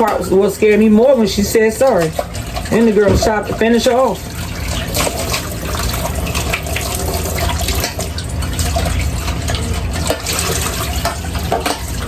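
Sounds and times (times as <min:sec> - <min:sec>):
water running into sink: 0:00.0 - 0:12.0.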